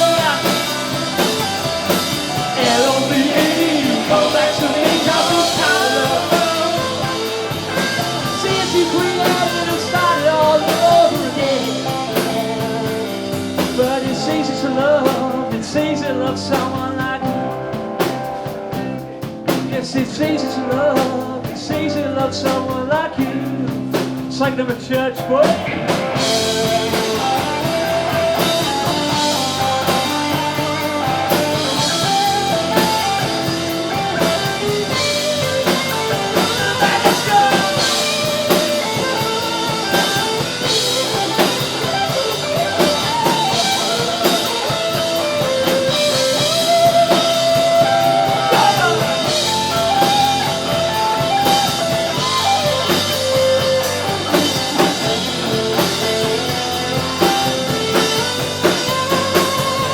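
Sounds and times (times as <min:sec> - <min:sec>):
drum kit: 0:00.0 - 0:59.9
electric guitar lead: 0:00.0 - 0:59.9.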